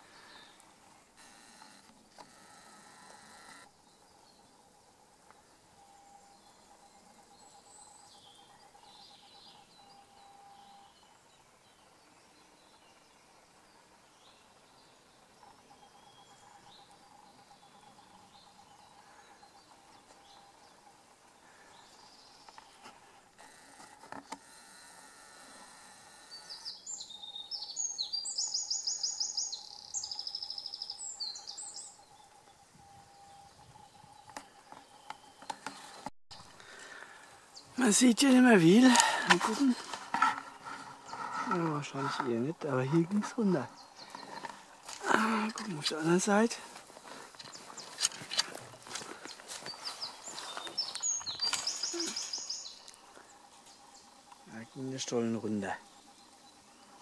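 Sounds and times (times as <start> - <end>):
faint bird calls: 0.0 - 57.0
songbird trilling: 5.8 - 22.8, 26.1 - 57.0.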